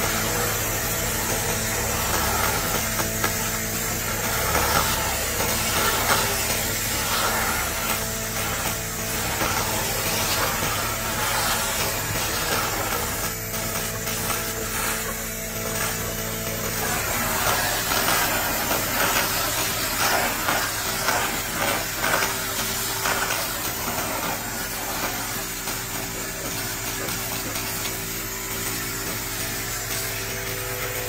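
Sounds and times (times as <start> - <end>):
laser hissing and crackling: 0.0 - 31.0.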